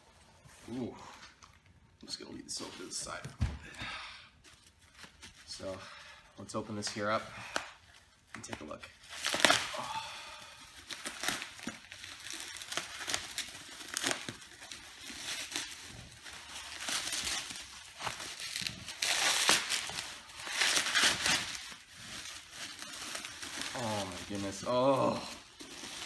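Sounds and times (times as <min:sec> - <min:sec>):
bubble wrap crinkling: 0:04.4 - 0:26.0.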